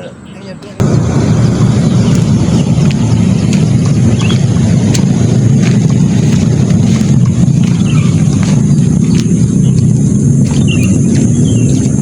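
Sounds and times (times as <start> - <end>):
loud low rumbling noise: 0.8 - 12.0.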